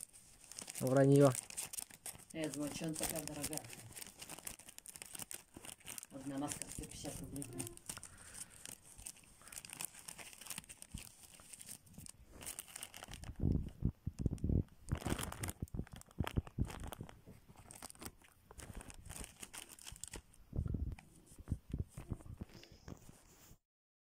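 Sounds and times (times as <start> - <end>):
plastic packaging crinkling and tearing: 0.0 - 23.2.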